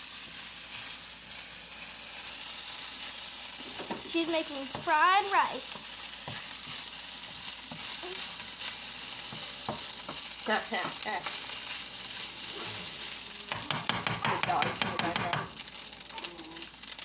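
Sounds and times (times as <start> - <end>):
rice sizzling in a hot pan: 0.0 - 17.0.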